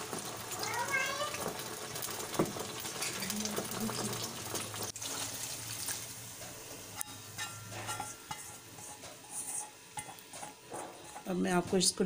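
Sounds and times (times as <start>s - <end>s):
hot oil sizzling: 0.0s - 12.0s
stirring in a pan: 0.0s - 12.0s.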